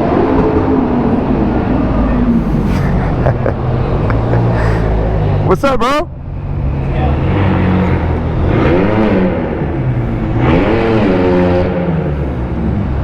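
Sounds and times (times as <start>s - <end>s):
vehicle engine idling and revving: 0.0s - 13.0s.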